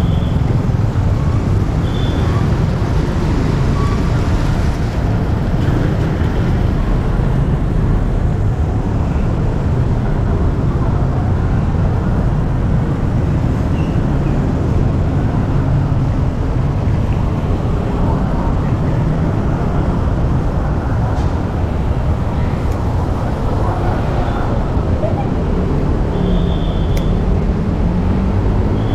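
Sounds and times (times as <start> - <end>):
busy road traffic rumble: 0.0 - 28.9.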